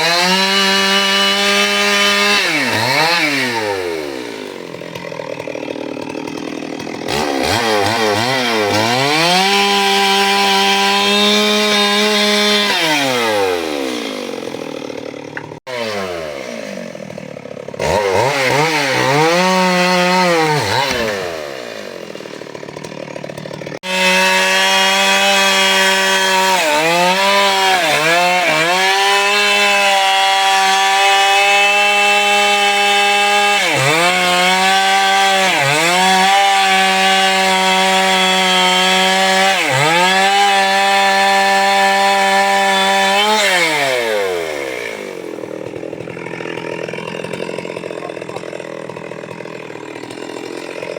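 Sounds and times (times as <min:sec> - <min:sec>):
chainsaw revving and cutting wood: 0:00.0 - 0:50.9.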